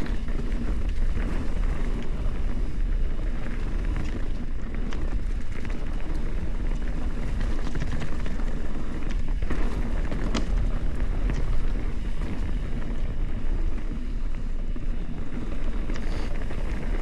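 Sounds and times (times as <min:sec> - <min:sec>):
tyre and trail rumble: 0:00.0 - 0:17.0
wind buffeting microphone: 0:00.0 - 0:17.0.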